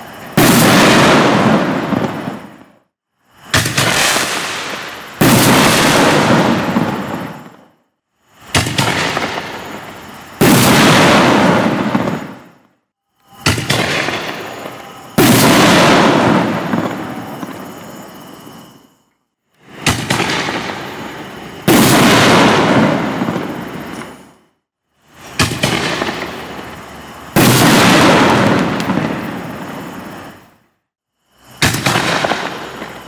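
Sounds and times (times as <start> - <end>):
firework aerial burst: 0.0 - 19.0, 19.6 - 30.6, 31.2 - 33.0.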